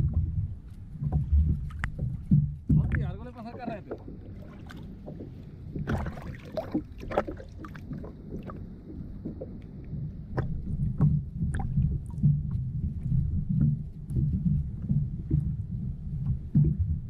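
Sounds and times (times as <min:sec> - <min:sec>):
water slapping against kayak hull: 0:00.0 - 0:17.0
wind rumble on microphone: 0:00.0 - 0:17.0.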